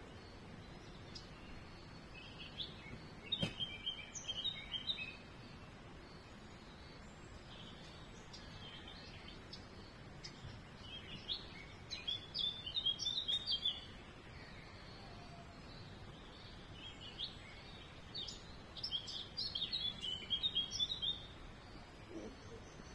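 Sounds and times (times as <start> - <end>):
background hiss: 0.0 - 22.9
songbird twittering: 0.1 - 22.9.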